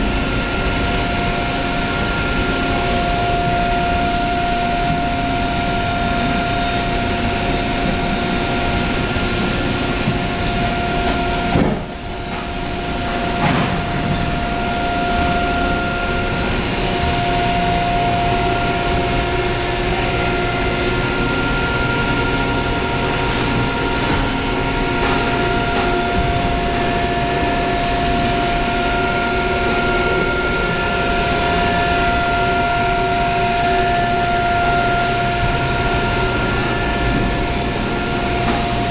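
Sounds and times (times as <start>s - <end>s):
machine humming with high whine: 0.0s - 38.9s.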